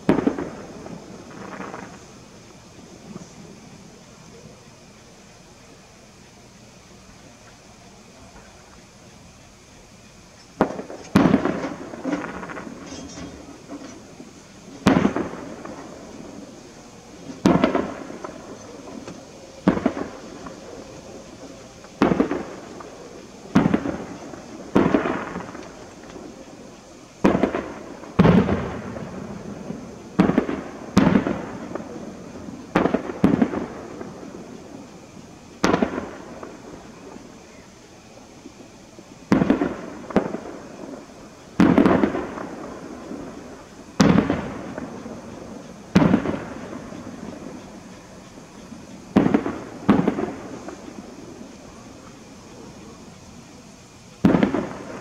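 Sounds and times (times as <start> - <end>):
fireworks booming with echo: 0.0 - 55.0.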